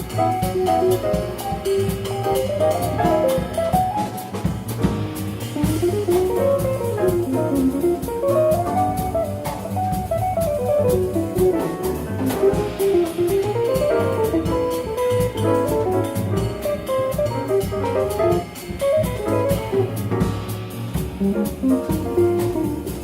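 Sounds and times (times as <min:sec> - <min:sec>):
fast melodic line: 0:00.0 - 0:23.0
jazz band playing live: 0:00.0 - 0:23.0.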